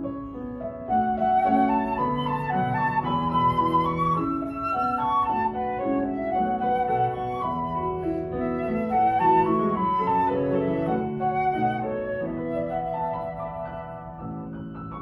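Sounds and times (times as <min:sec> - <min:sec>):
flute melody: 0:00.0 - 0:15.0
piano chords: 0:00.0 - 0:15.0.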